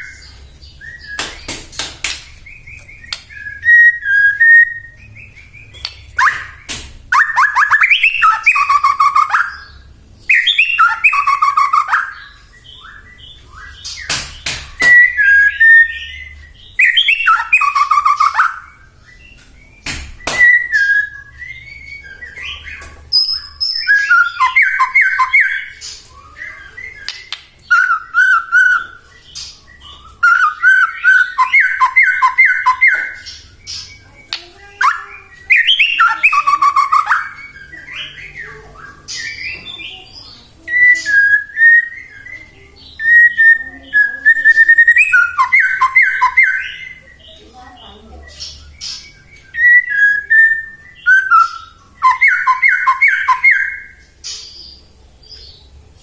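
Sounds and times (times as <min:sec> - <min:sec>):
bird singing whistles and trills: 0:00.0 - 0:01.5, 0:02.4 - 0:55.7.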